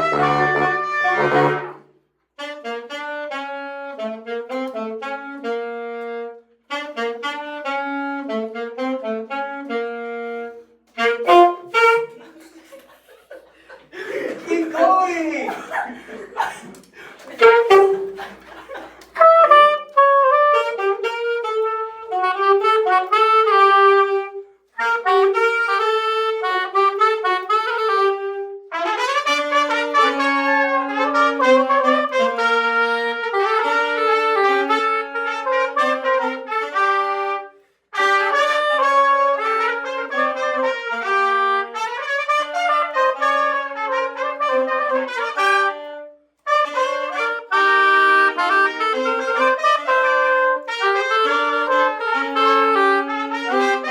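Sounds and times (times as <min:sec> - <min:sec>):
low saxophone line: 0:00.0 - 0:12.5, 0:14.7 - 0:18.4, 0:19.0 - 0:53.9
trumpet and saxophones playing salsa: 0:00.0 - 0:12.6, 0:13.9 - 0:53.9.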